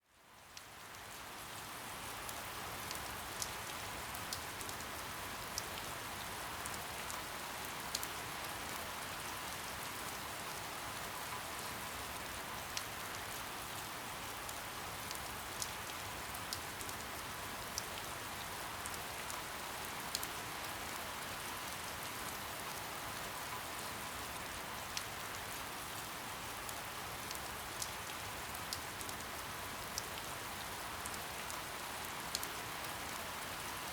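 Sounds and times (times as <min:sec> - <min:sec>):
soft rain falling: 0:00.0 - 0:33.9
raindrops ticking nearby: 0:00.1 - 0:33.9.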